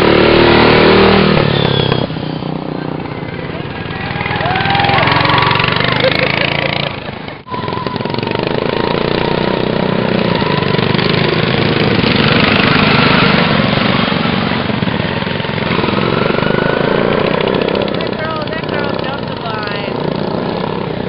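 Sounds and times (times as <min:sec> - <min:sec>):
lawn mower engines racing: 0:00.0 - 0:21.0.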